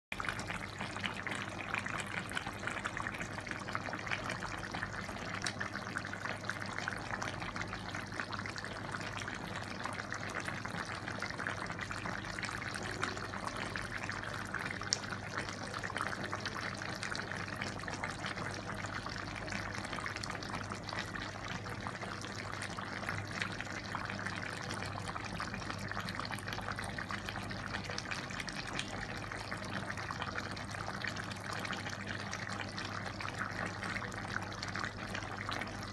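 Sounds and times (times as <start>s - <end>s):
stew bubbling in a pot: 0.1s - 35.9s.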